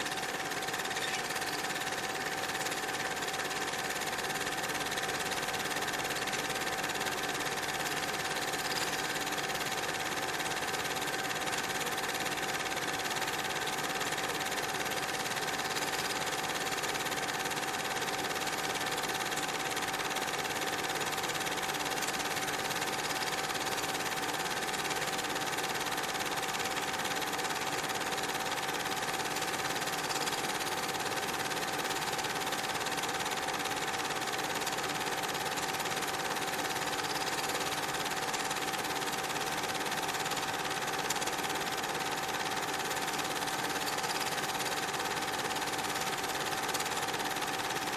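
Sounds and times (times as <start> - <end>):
film projector whirring: 0.0 - 47.9.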